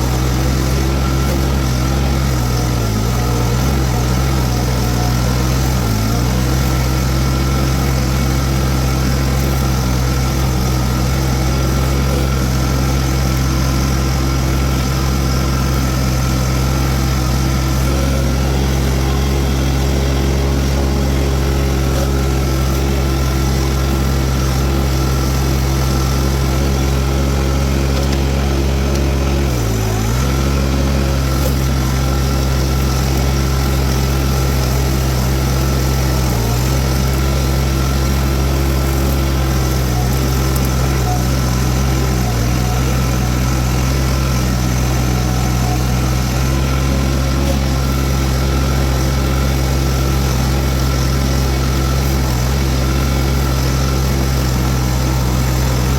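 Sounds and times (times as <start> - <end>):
brush mower: 0.0 - 55.9
diesel engine running: 0.0 - 55.9.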